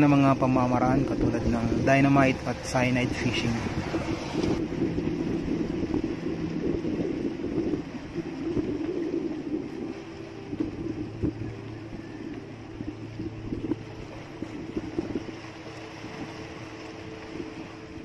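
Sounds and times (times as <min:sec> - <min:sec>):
small boat engine hum: 0:00.0 - 0:18.0.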